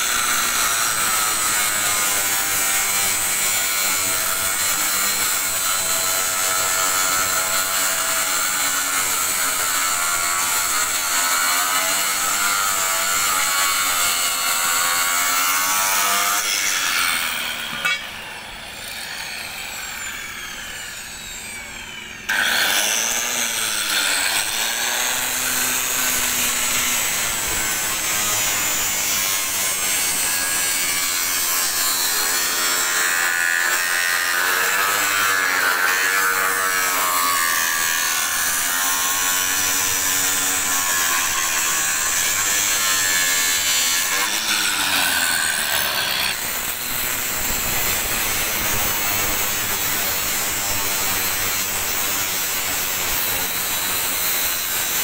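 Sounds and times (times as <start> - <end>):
angle grinder cutting steel: 0.0 - 55.0.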